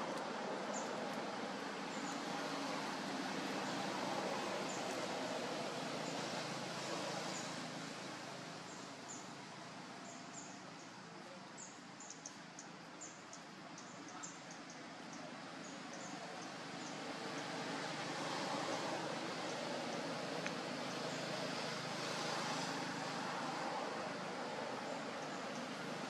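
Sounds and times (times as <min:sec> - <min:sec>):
small birds chirping: 0:00.0 - 0:05.3, 0:08.6 - 0:26.0
outdoor background hiss: 0:00.0 - 0:26.0.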